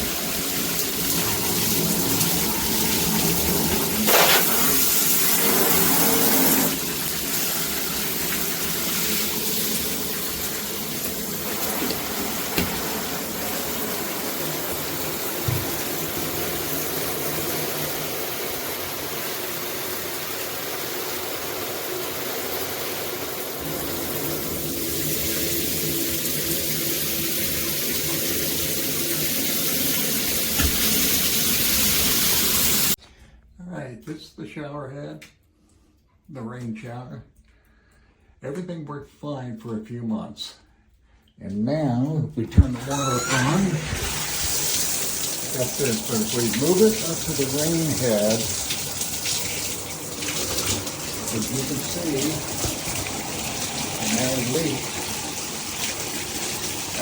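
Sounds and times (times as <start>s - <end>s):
shower water splashing: 0.0s - 33.0s, 42.6s - 57.0s.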